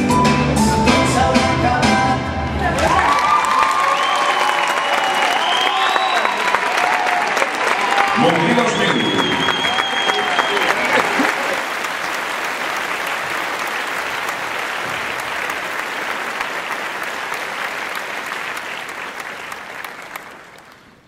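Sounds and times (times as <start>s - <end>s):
audience clapping: 2.6s - 21.0s.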